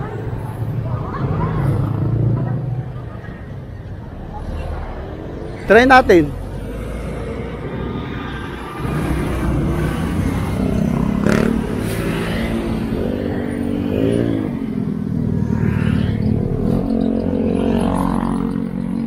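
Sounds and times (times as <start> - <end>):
road traffic engines humming: 0.0 - 19.0.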